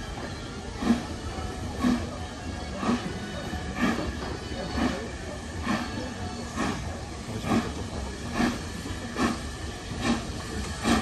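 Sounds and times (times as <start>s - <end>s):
steam hiss: 0.0s - 11.0s
steam locomotive exhaust beats: 0.0s - 11.0s.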